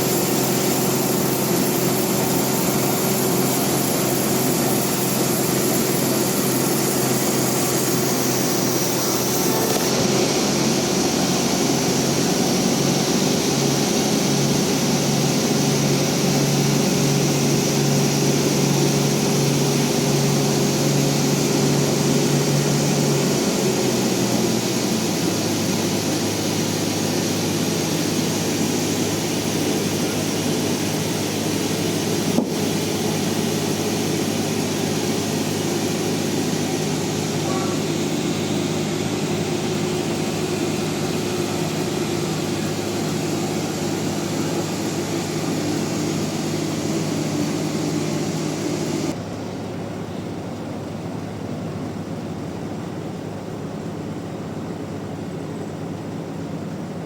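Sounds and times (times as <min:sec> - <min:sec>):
sawmill mechanical drone: 0:00.0 - 0:57.0.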